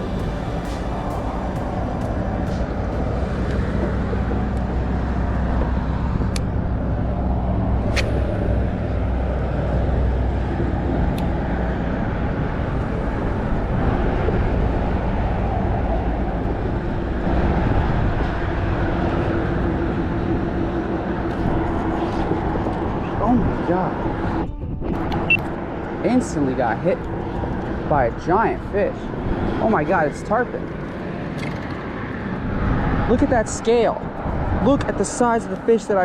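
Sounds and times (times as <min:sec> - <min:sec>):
low engine rumble: 0:00.0 - 0:36.0.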